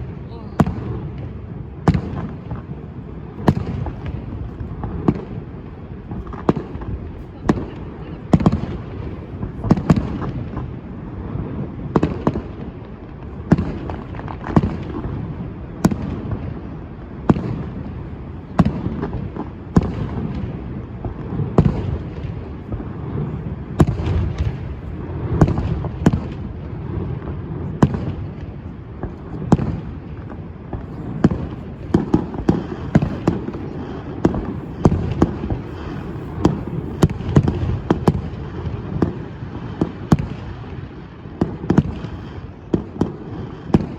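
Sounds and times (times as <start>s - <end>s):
fireworks bangs: 0.0s - 43.9s.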